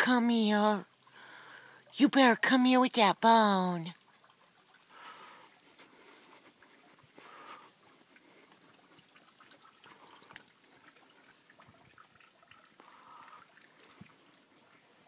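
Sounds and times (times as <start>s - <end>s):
faint ticks and clicks: 1.0s - 2.0s, 3.9s - 15.0s.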